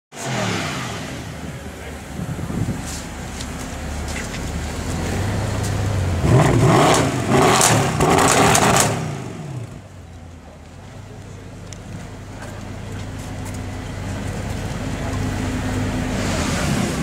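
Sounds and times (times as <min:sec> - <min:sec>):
car engine idling and revving: 0:00.1 - 0:17.0.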